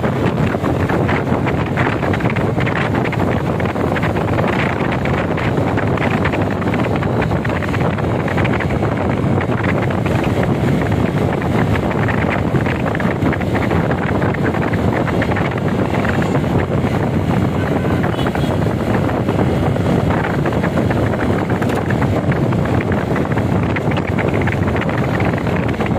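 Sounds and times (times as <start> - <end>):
motorcycle road noise: 0.0 - 25.9
wind buffeting microphone: 0.0 - 25.9.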